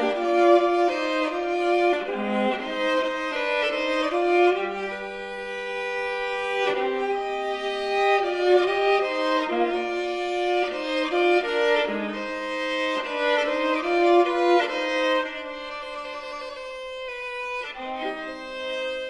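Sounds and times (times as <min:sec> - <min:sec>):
solo viola bowing: 0:00.0 - 0:19.0.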